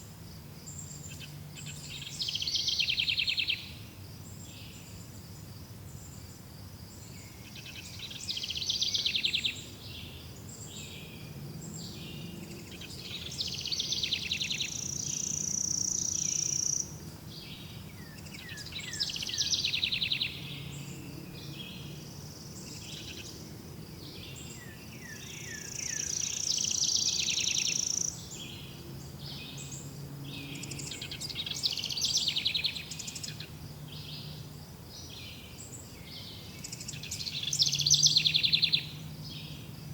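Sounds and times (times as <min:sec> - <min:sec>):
faint steady hum: 0:00.0 - 0:39.9
songbirds singing: 0:00.0 - 0:39.9.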